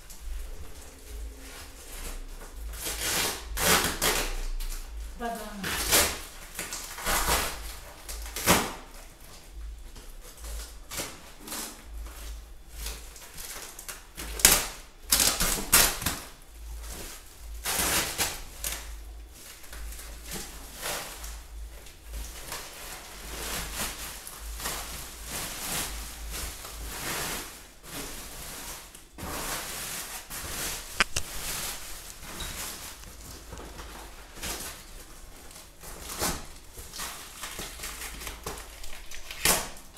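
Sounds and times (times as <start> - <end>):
plastic wrapping rustling: 0.0 - 39.9.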